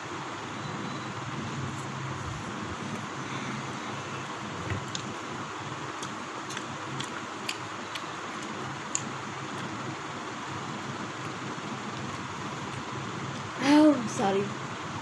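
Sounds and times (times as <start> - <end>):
fan-like background noise: 0.0 - 15.0.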